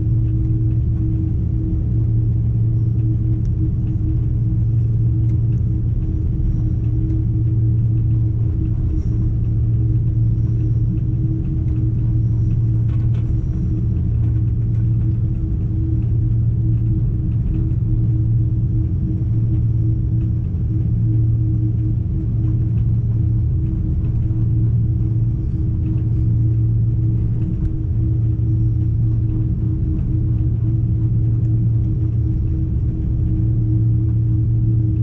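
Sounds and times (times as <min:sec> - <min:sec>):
jet engines rumbling: 0:00.0 - 0:35.0
steady hum: 0:00.0 - 0:35.0.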